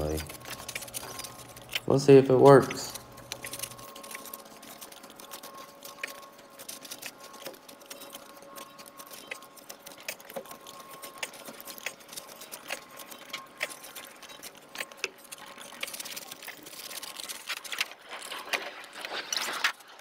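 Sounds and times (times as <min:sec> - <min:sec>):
spade digging and scraping soil: 0:00.0 - 0:20.0.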